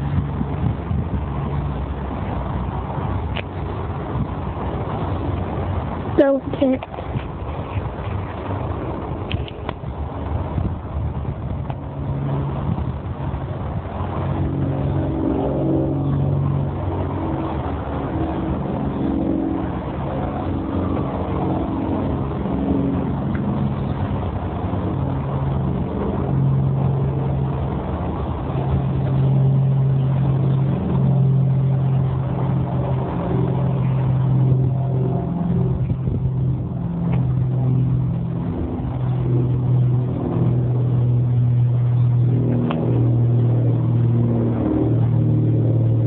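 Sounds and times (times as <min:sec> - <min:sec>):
engine droning: 0:00.0 - 0:46.0.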